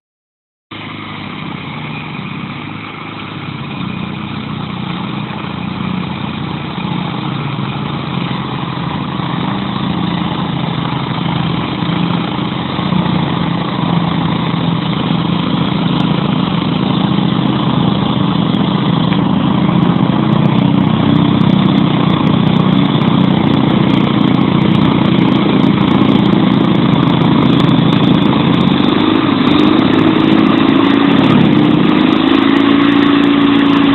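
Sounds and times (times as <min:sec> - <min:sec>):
lawn tractor engine running: 0:00.7 - 0:33.9.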